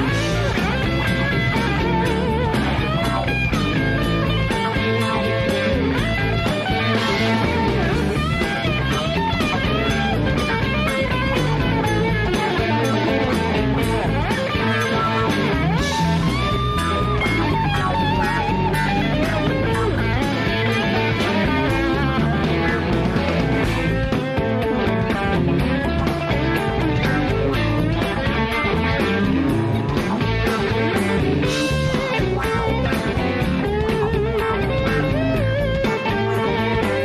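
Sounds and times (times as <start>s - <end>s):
blues-rock band playing: 0.0s - 37.0s
electric guitar string bends: 0.0s - 37.0s.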